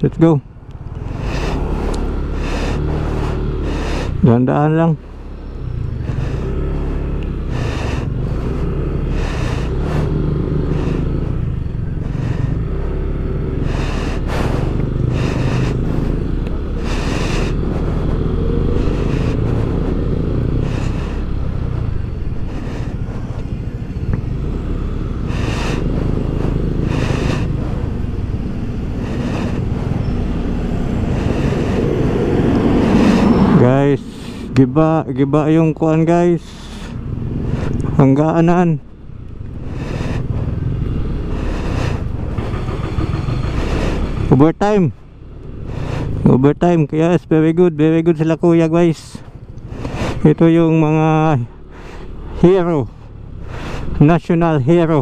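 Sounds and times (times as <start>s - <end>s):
scooter engine running: 0.0s - 46.5s, 48.6s - 55.0s.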